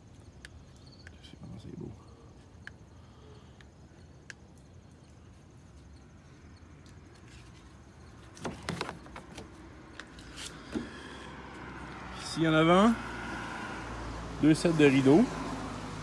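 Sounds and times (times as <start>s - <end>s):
faint pulsing insect chirr: 0.0s - 16.0s.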